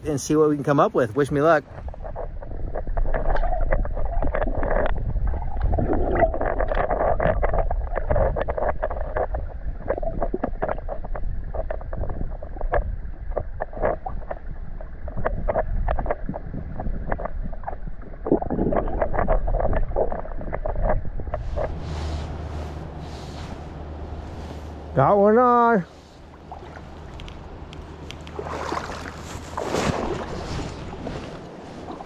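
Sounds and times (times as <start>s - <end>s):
muffled underwater water rush: 1.4s - 32.0s.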